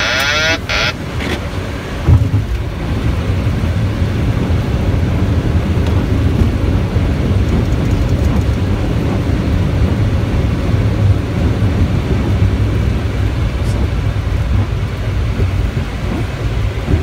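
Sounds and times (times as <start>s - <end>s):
wheels and engines rumbling: 0.0s - 17.0s.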